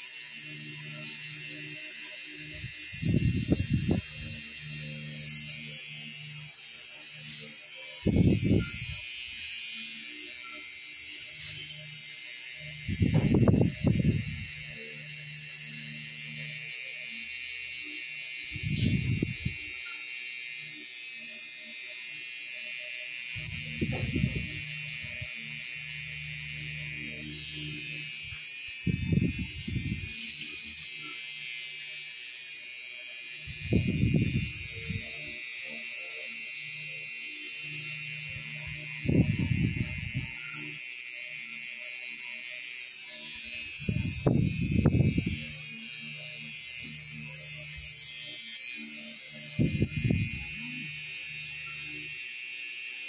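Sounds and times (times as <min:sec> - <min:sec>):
tattoo machine buzzing whine: 0:00.0 - 0:53.0.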